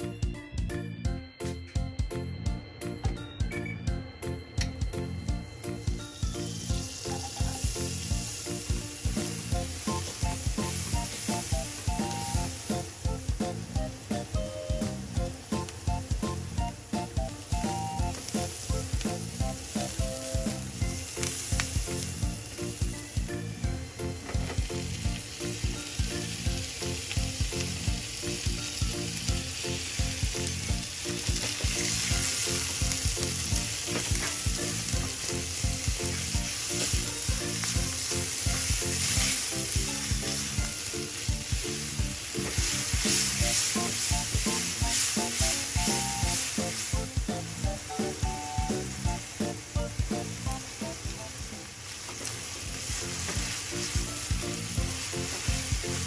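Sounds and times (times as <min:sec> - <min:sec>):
meat frying in a pan: 0:04.9 - 0:56.0.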